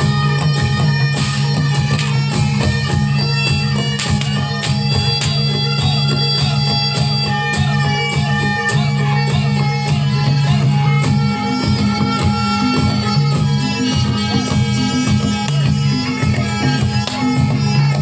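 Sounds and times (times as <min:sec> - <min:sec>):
reedy melody over drone: 0:00.0 - 0:18.0.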